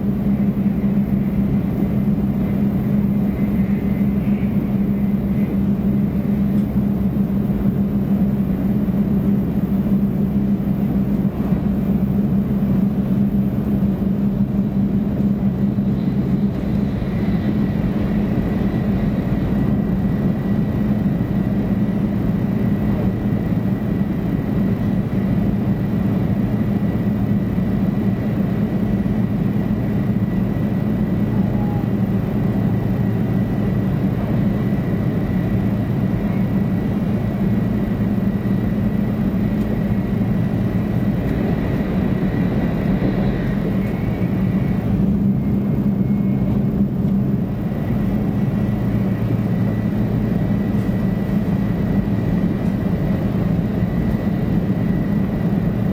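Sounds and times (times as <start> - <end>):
train cabin low rumble: 0.0 - 55.9.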